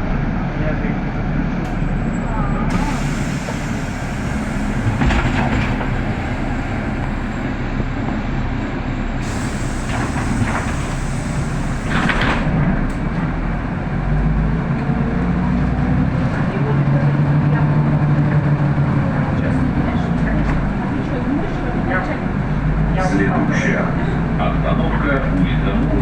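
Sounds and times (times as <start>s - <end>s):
bus engine running: 0.0s - 26.0s
road rumble: 0.0s - 26.0s.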